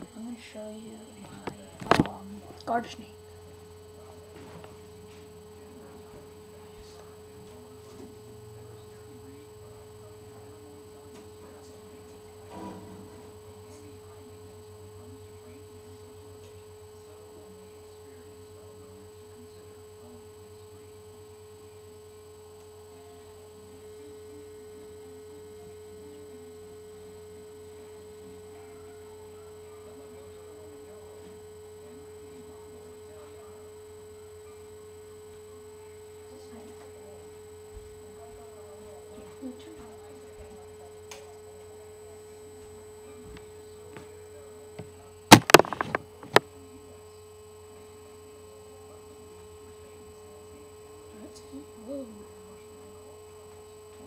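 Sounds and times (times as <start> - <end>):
electrical hum with whine: 0.0 - 54.0.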